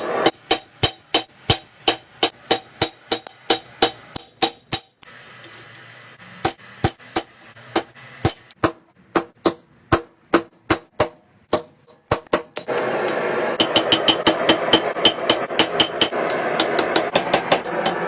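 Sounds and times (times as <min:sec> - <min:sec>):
hammer striking steel on anvil: 0:00.0 - 0:05.0, 0:06.4 - 0:18.0.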